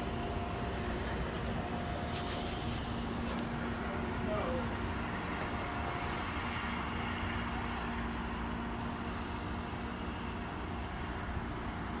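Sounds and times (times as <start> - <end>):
distant engine noise: 0.0 - 12.0.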